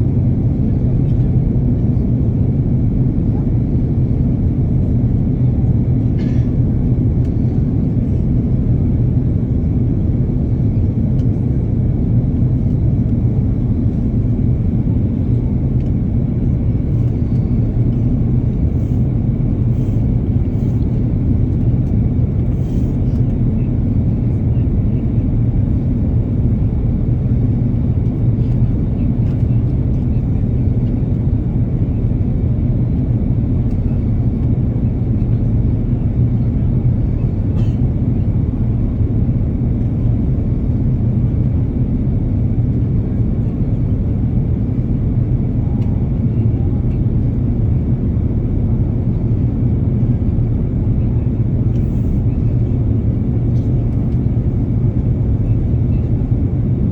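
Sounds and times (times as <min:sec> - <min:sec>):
airplane rumble: 0:00.0 - 0:56.9.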